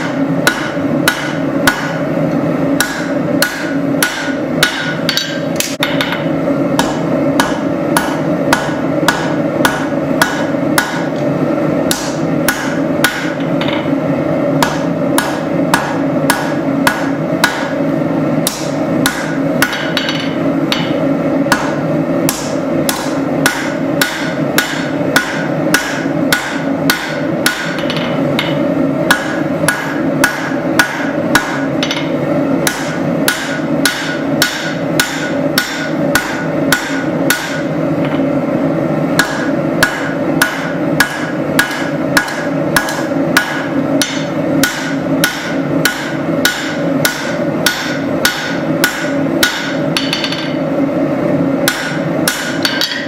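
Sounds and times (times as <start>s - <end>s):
hammer striking steel on anvil: 0.0s - 2.1s, 2.8s - 11.3s, 11.9s - 14.0s, 14.6s - 17.8s, 18.4s - 38.3s, 39.1s - 50.8s, 51.6s - 53.0s.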